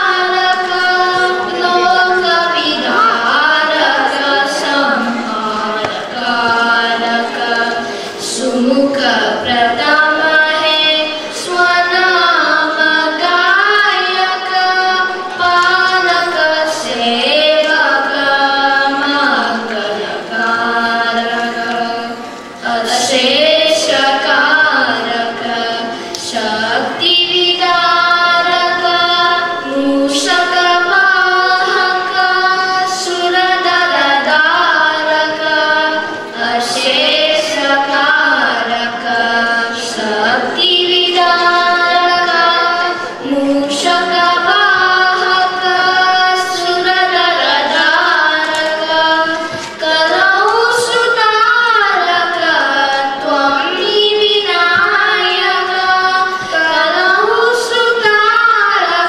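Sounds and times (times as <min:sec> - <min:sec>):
girl and boy singing: 0:00.0 - 0:59.0.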